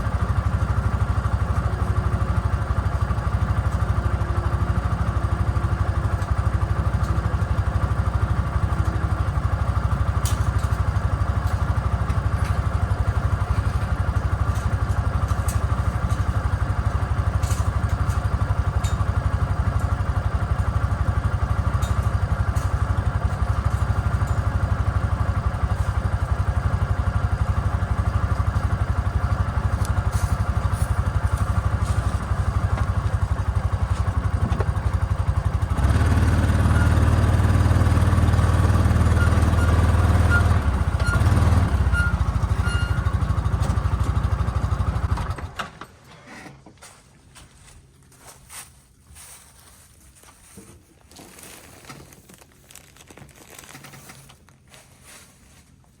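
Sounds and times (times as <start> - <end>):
small engine running: 0.0 - 45.6.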